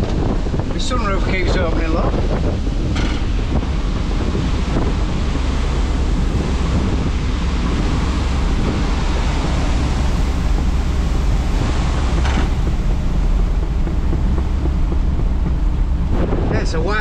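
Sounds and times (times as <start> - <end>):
wind buffeting cab: 0.0 - 17.0
diesel engine droning: 1.7 - 17.0.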